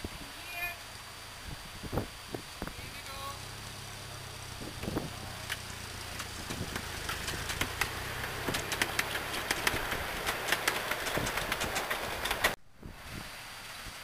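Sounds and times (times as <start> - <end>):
miniature locomotive engine humming: 0.0 - 12.6
wheels clicking over rail joints: 0.0 - 12.6.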